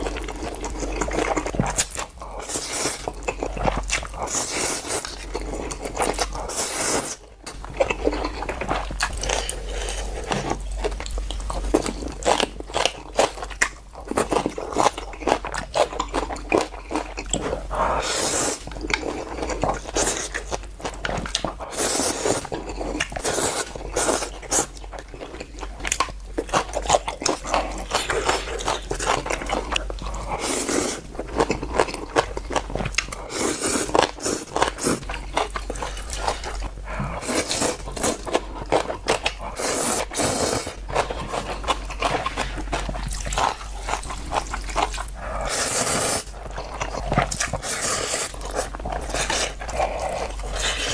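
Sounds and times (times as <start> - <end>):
person chewing crunchy food: 0.0 - 50.9
steady low hum: 0.0 - 50.9.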